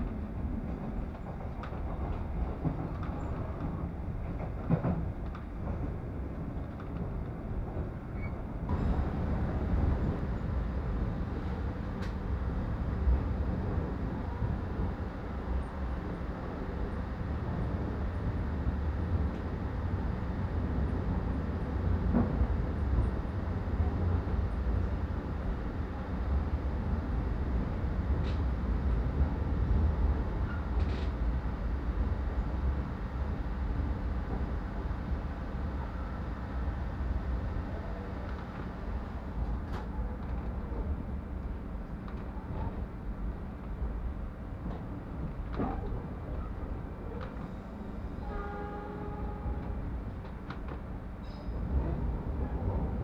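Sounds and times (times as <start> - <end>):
train coach rumbling: 0.0 - 53.0.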